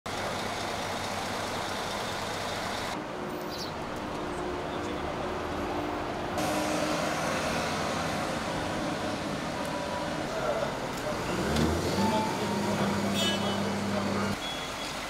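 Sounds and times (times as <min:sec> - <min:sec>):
diesel machinery humming: 0:00.1 - 0:14.4.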